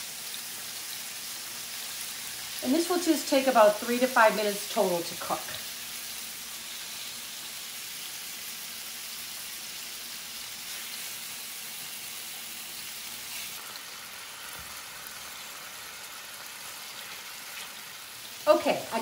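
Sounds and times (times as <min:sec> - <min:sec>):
steak sizzling in oil: 0:00.0 - 0:19.0.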